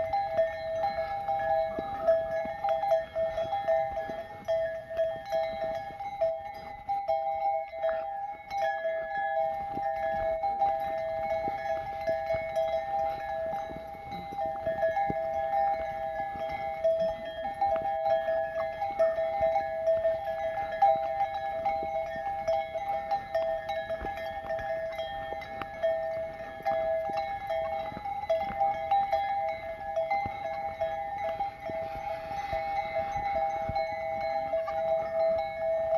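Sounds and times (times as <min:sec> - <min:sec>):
flock of sheep and goats: 0:00.0 - 0:35.9
hoof steps: 0:00.0 - 0:35.9.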